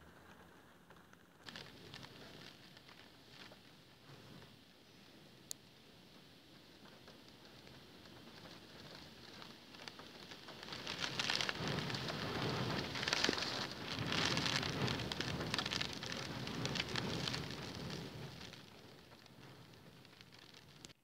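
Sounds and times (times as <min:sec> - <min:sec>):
heavy rain: 0:00.9 - 0:21.0.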